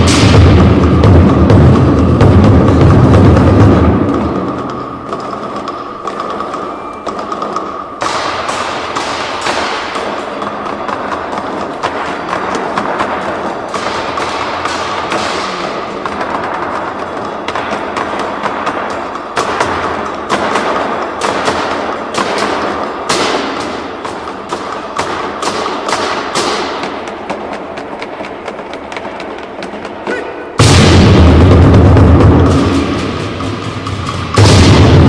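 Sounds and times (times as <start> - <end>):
drum ensemble playing rapidly: 0.0 - 35.0.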